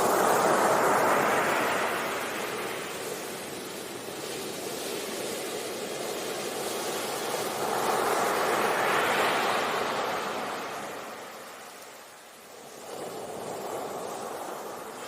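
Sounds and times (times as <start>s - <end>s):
ocean waves on a beach: 0.0s - 15.0s.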